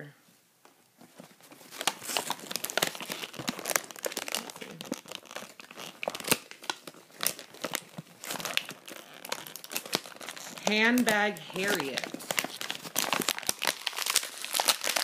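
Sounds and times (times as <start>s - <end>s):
plastic packaging crinkling and tearing: 1.2s - 15.0s.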